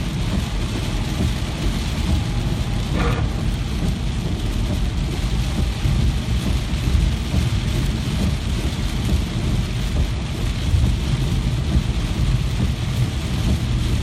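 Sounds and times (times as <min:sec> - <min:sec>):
deep low rumble: 0:00.0 - 0:14.0
heavy rain hissing: 0:00.0 - 0:14.0.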